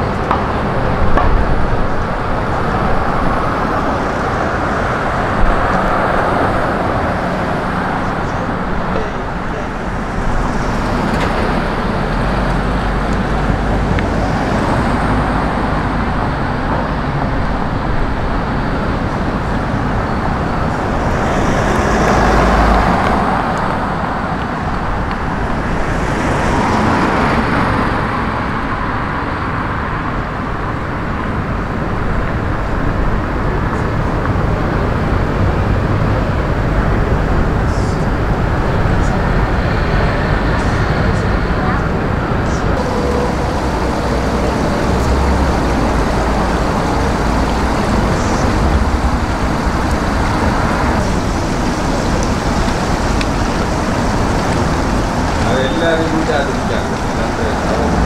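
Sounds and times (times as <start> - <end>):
road noise from passing cars: 0.0 - 58.0.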